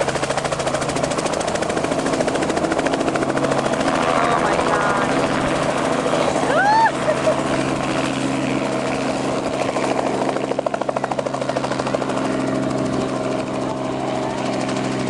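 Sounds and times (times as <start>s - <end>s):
helicopter engine whine: 0.0s - 15.0s.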